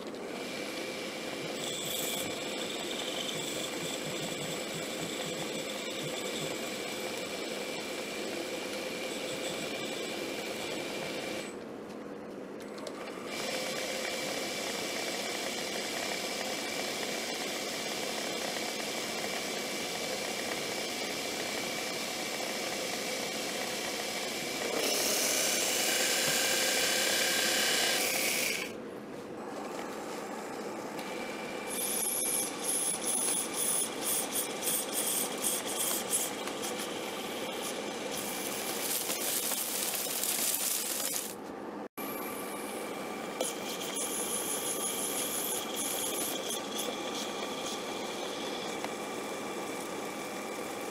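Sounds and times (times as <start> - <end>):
lathe motor whine: 0.3 - 11.5, 13.1 - 28.8, 29.4 - 41.4, 42.0 - 50.9
lathe tool cutting metal: 0.8 - 11.5, 13.4 - 28.7, 31.0 - 41.3, 42.1 - 50.8.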